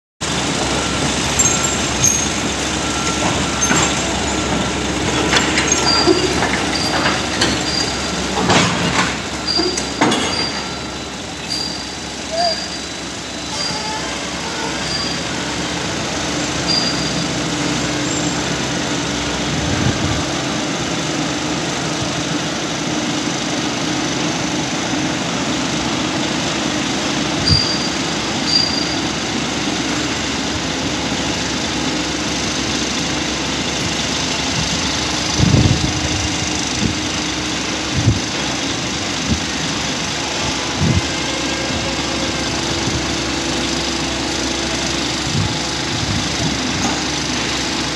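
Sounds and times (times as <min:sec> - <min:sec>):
excavator engine running: 0:00.2 - 0:47.9.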